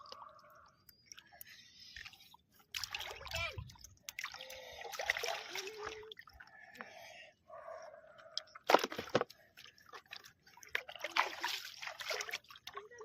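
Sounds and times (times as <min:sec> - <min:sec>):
water splashing and sloshing: 0:00.0 - 0:07.1, 0:08.0 - 0:13.0.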